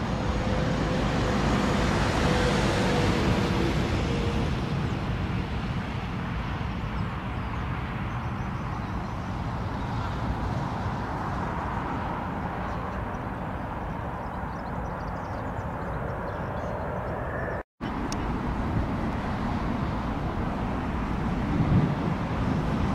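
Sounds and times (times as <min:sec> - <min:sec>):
airliner rumble: 0:00.0 - 0:22.9
road traffic noise: 0:00.0 - 0:22.9.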